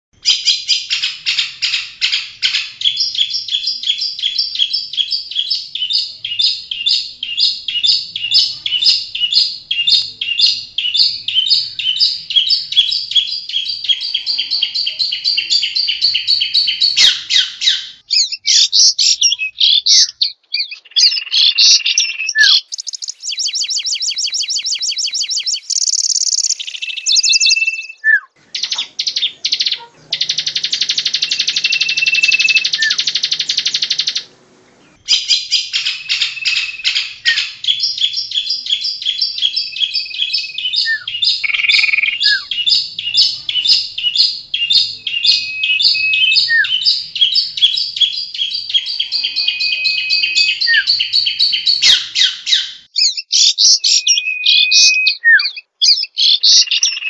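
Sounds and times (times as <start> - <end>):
bird singing: 0.2 - 57.0.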